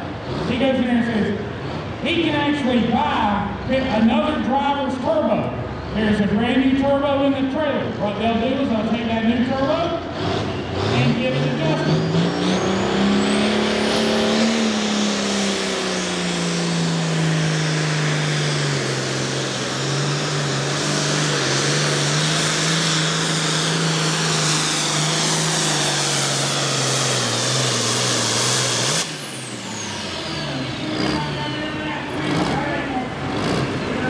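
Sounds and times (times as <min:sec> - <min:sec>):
diesel tractor engine under load: 0:00.0 - 0:34.0.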